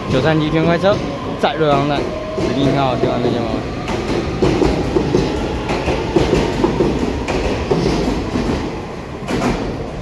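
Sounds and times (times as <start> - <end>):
wheels clacking over rail joints: 0.0 - 9.9
train rumbling: 0.0 - 10.0.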